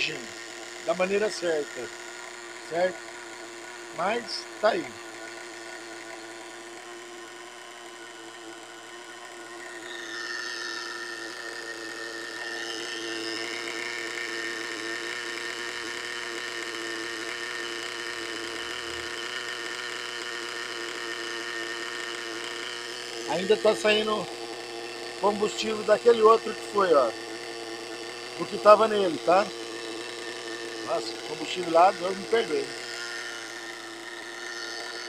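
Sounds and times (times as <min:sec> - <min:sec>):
small two-stroke engine running: 0:00.0 - 0:35.0.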